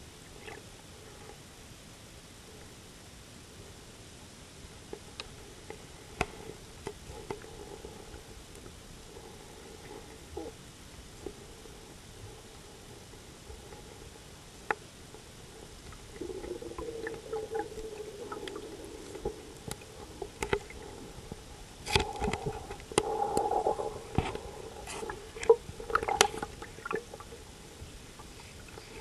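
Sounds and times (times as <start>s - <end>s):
low hiss: 0.0s - 29.0s
motors humming underwater: 4.9s - 29.0s.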